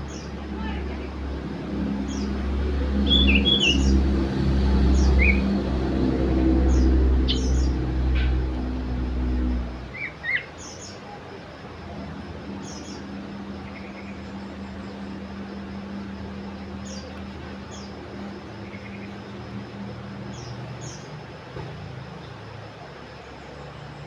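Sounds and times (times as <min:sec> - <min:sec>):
songbird chirping: 0:00.0 - 0:24.0
steady low hum: 0:00.0 - 0:24.0.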